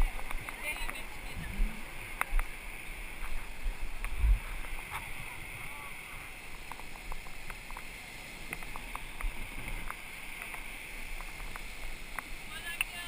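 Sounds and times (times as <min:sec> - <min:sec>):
wind on microphone: 0:00.0 - 0:12.9
water around a boat: 0:00.0 - 0:13.0.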